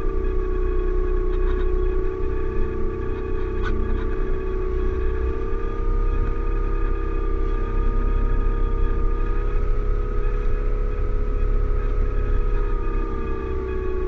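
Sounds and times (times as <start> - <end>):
electric motor and propeller whining: 0.0 - 14.0
wind rumbling on microphone: 0.0 - 14.0.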